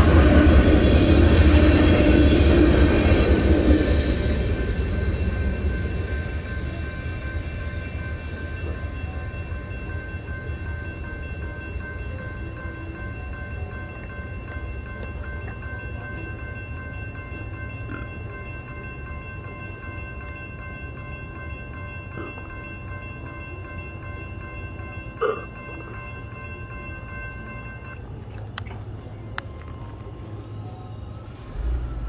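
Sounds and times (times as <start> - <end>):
railroad crossing bell ringing: 0.0 - 32.0.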